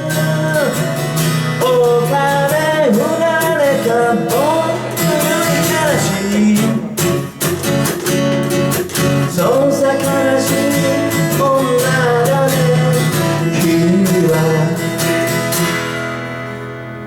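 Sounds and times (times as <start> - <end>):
acoustic guitar strums: 0.0 - 17.0.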